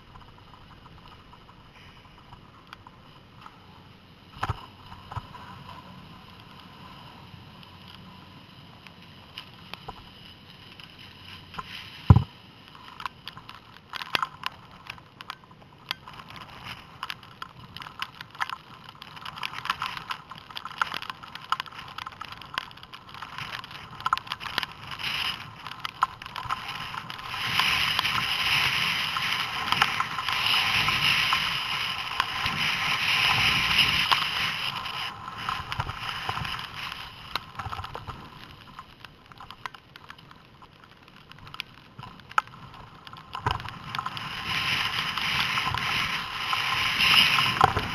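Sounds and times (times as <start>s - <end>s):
skis scraping over snow: 0.0s - 47.9s.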